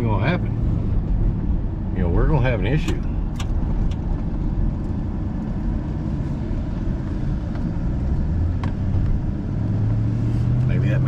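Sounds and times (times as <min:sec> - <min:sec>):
road noise in vehicle cabin: 0:00.0 - 0:11.0
vehicle engine hum: 0:00.0 - 0:11.0.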